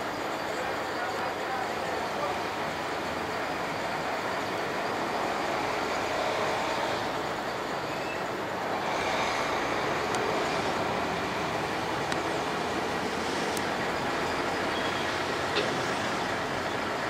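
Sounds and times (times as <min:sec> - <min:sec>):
jet airliner climbing: 0:00.0 - 0:17.0.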